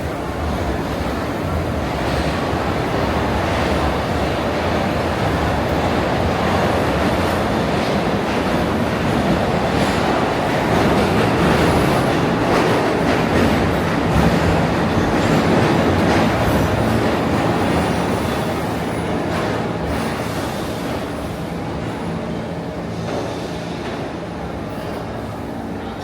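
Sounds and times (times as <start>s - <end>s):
subway train rumbling on rails: 0.0s - 26.0s.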